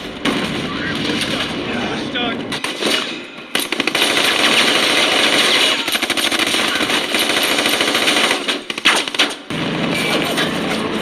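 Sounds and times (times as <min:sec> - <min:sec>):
rapid automatic gunfire: 0:00.0 - 0:10.7.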